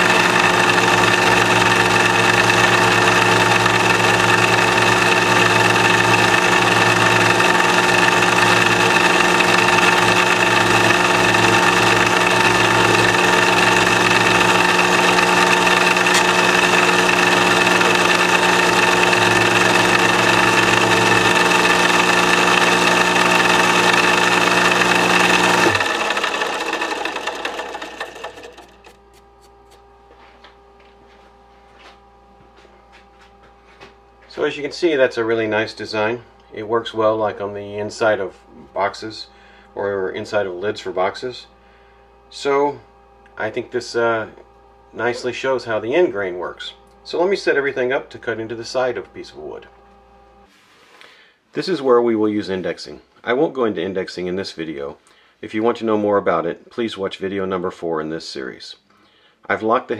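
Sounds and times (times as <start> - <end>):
lathe motor humming: 0.0 - 50.5.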